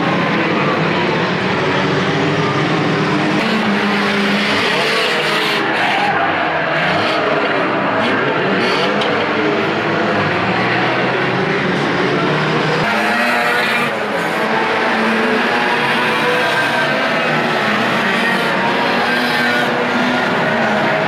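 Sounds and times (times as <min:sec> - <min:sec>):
racing car engines revving: 0:00.0 - 0:21.0.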